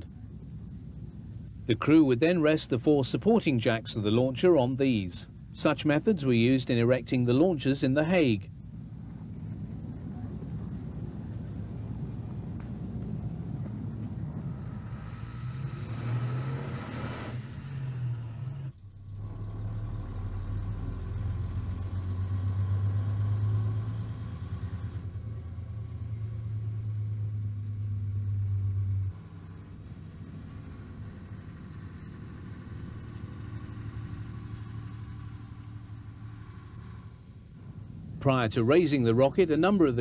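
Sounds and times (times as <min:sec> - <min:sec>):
heavy vehicle engine droning: 0:00.0 - 0:40.0.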